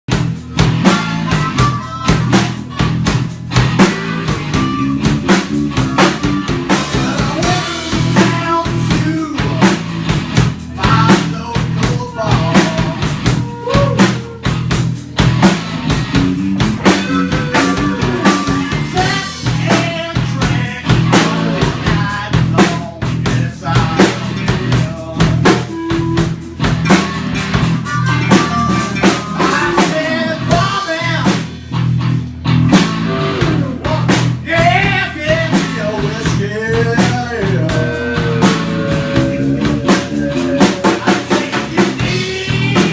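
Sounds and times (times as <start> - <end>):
bass line: 0.1 - 42.9
drum kit beat: 0.1 - 42.9
guitar melody: 0.2 - 42.9.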